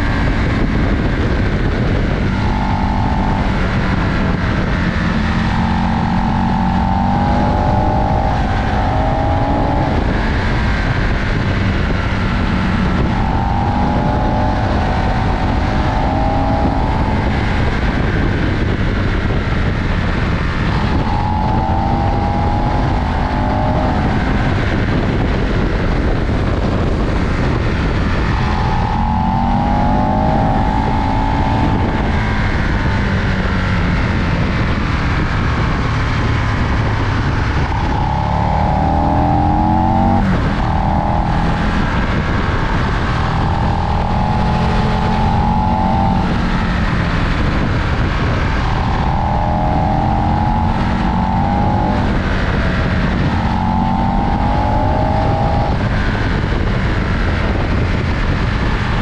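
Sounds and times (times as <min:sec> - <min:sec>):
motorcycle engine pulling hard: 0:00.0 - 0:59.0
wind and road noise: 0:00.0 - 0:59.0.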